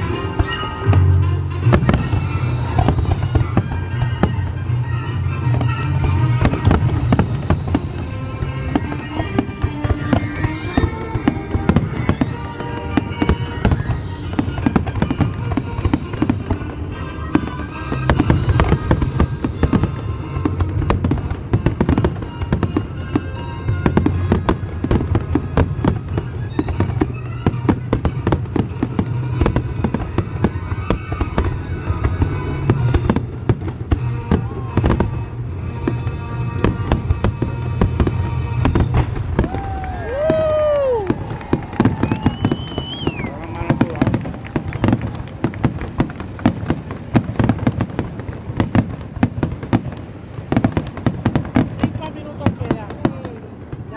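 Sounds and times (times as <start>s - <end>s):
music playing: 0.0s - 45.2s
fireworks bangs and crackles: 0.0s - 53.9s.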